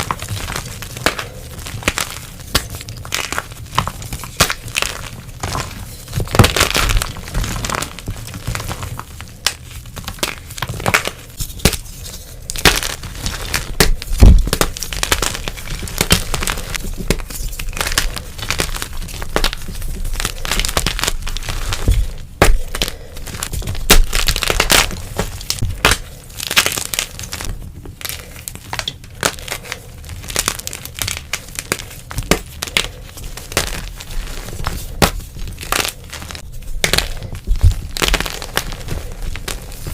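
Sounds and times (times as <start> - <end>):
chalk crunching and crackling: 0.0 - 39.9.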